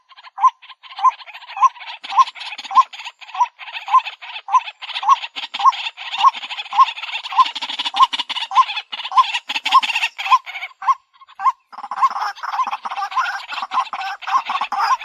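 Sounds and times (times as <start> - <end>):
waterhen croaking calls: 0.0 - 15.0.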